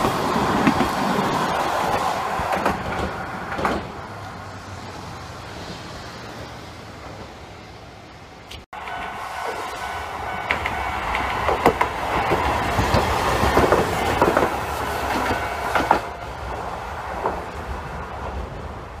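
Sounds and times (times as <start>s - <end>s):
tram rumble: 0.0s - 19.0s
tram wheels clattering on rails: 0.0s - 19.0s.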